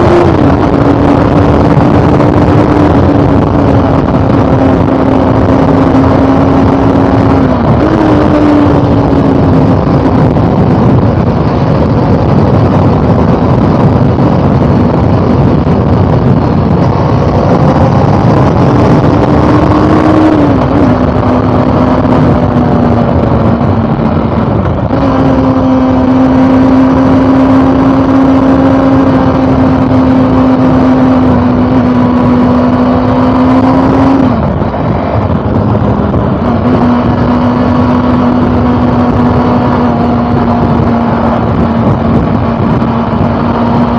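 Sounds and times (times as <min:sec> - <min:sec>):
motorcycle engine running: 0:00.0 - 0:43.9
steady rushing noise: 0:00.0 - 0:43.9.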